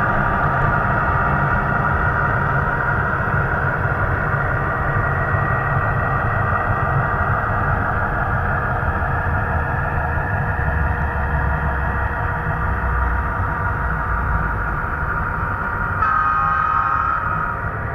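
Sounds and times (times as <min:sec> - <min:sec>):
model diesel locomotive drone: 0:00.0 - 0:17.9.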